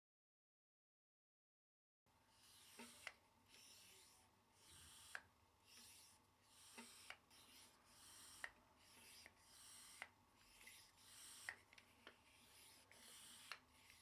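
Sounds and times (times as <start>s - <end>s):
bike pump rasping strokes: 2.4s - 14.0s.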